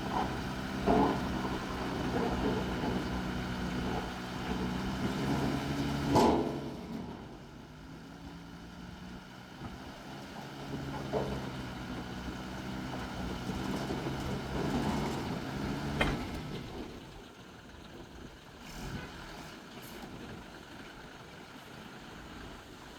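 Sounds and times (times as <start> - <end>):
excavator diesel engine running: 0.0 - 22.7.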